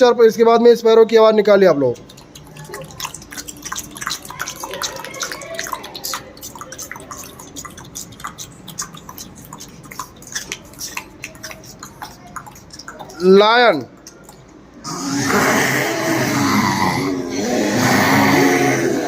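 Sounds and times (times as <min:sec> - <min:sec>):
children imitating bird chirps: 0:01.9 - 0:19.0.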